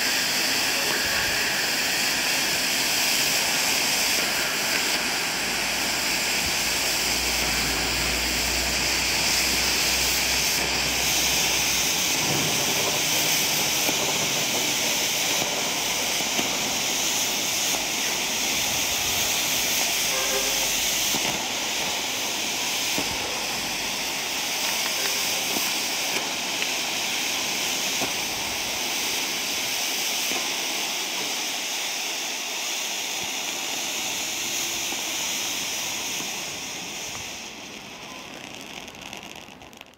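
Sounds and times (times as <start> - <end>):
smoke bombs hissing: 0.0 - 39.9.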